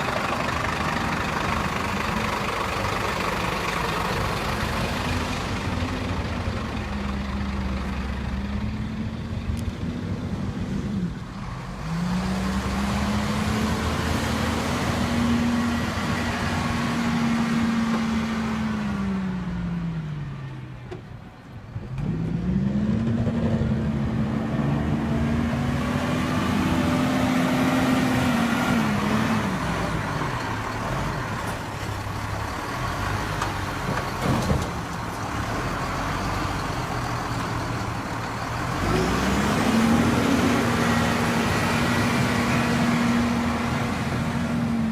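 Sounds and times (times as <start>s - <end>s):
truck diesel engine revving: 0.0s - 20.4s, 21.8s - 44.9s.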